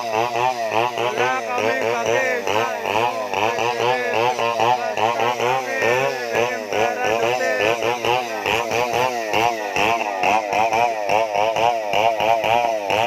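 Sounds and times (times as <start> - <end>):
chainsaw engine running unsteadily: 0.0 - 13.0.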